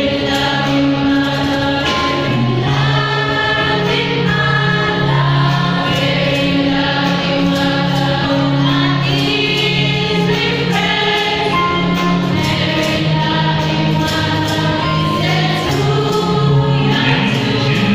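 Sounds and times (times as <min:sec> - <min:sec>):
choir singing long held notes: 0:00.0 - 0:17.9.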